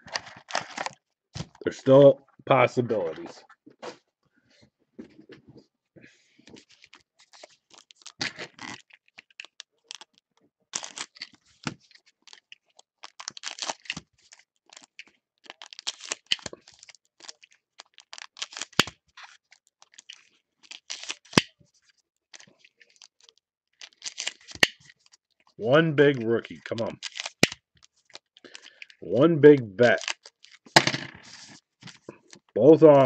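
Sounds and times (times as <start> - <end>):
foil wrapper crinkling and tearing: 0.0 - 1.0, 6.6 - 32.5.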